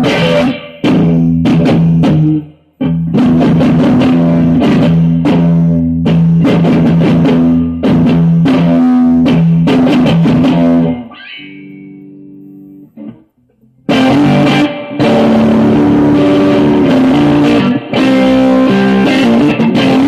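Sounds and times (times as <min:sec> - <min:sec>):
electric guitar strumming chords: 0:00.0 - 0:20.0.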